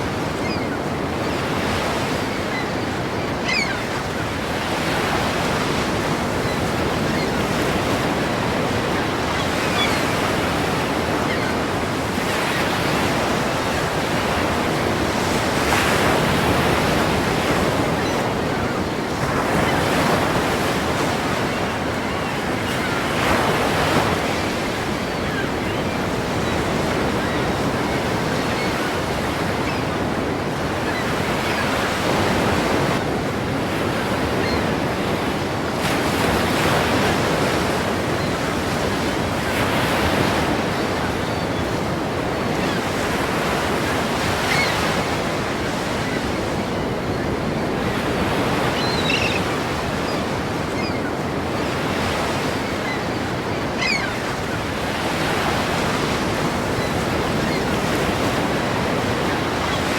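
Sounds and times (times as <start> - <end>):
ocean waves crashing: 0.0 - 59.9.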